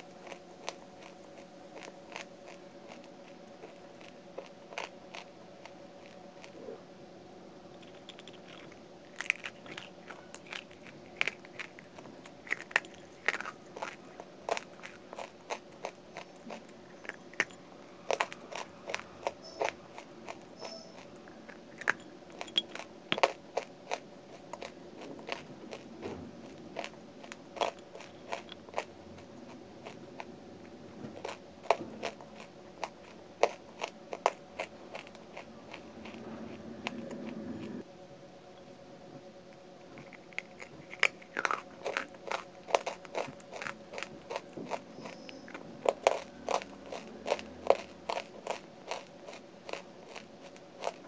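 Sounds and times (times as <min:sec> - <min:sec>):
crunching chewing of clay: 0:00.0 - 0:51.0.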